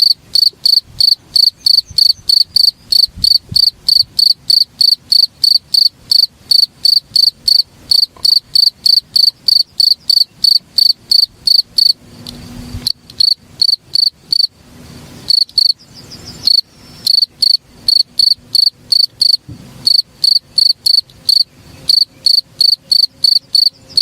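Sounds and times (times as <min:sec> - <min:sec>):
insect chirping rhythmically: 0:00.0 - 0:14.5, 0:15.3 - 0:15.8, 0:16.4 - 0:24.0.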